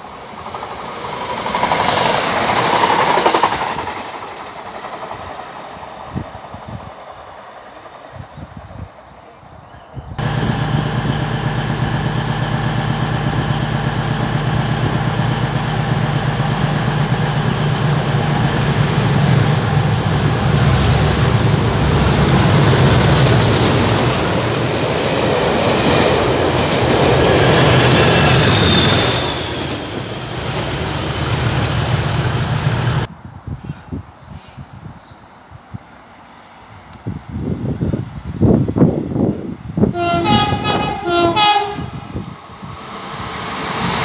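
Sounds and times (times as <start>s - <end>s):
diesel locomotive engine passing: 0.0s - 9.4s, 10.2s - 33.2s, 36.0s - 44.0s.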